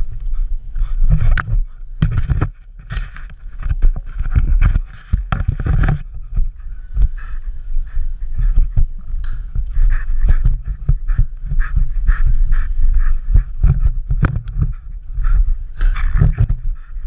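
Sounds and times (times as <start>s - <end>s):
camera rubbing and knocking: 0.0s - 7.4s, 8.2s - 17.0s
rumble of mount noise: 0.0s - 17.0s.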